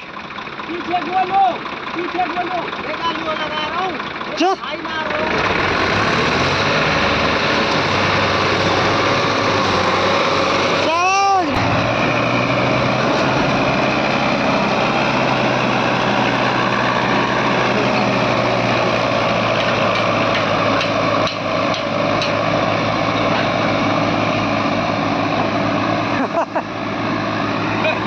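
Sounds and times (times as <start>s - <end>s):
tractor diesel engine under load: 0.0s - 28.0s.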